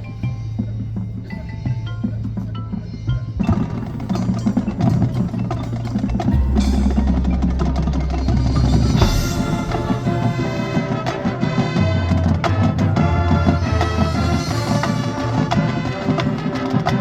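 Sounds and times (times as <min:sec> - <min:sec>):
drums: 0:00.0 - 0:17.0
mallet percussion: 0:00.0 - 0:17.0
marching band playing: 0:02.1 - 0:17.0.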